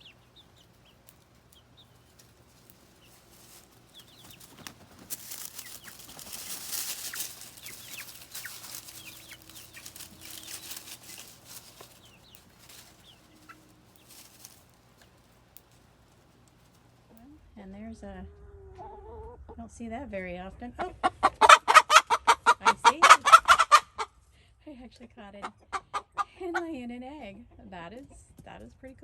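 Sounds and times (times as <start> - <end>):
chickens clucking and chirping: 0.0 - 17.4, 18.3 - 19.6, 20.7 - 24.1, 25.0 - 28.4.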